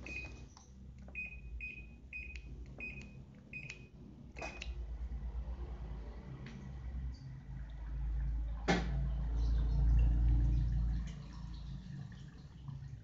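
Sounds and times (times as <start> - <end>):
washing machine low hum: 0.0 - 13.0.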